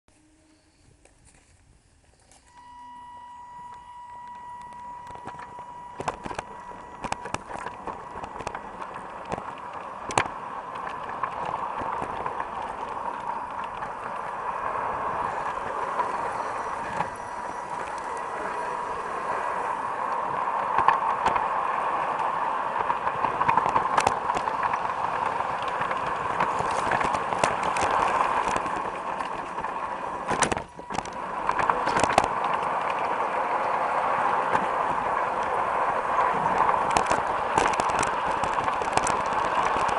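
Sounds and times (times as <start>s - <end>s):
wheels clicking over rail joints: 0.4s - 39.9s
model train motor whirring: 2.1s - 39.9s.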